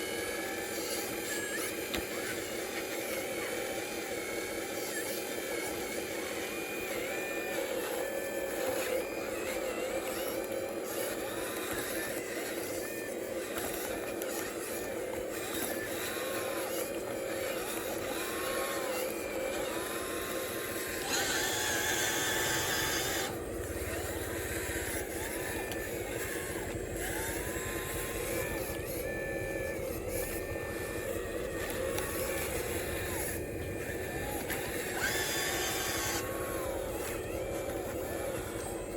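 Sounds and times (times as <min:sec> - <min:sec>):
machine engine running: 0:00.0 - 0:38.9.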